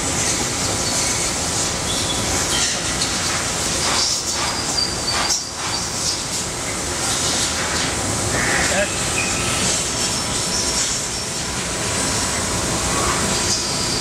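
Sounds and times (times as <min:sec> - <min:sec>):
industrial machinery hissing: 0:00.0 - 0:14.0.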